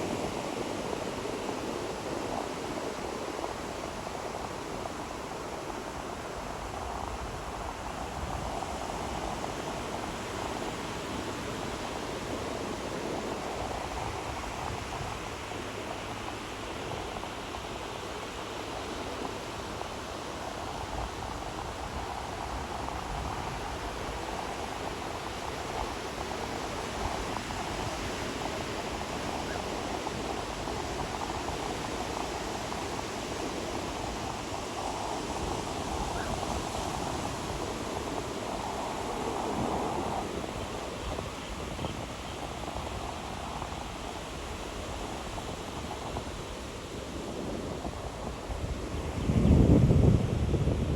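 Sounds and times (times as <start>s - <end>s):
ocean surf hissing: 0.0s - 50.9s
waves washing on a beach: 0.0s - 50.9s.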